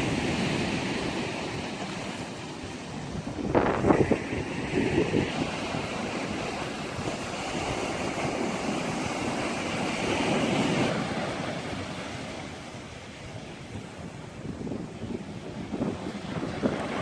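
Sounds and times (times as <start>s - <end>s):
surf rushing ashore: 0.0s - 17.0s
wind on microphone: 0.0s - 17.0s.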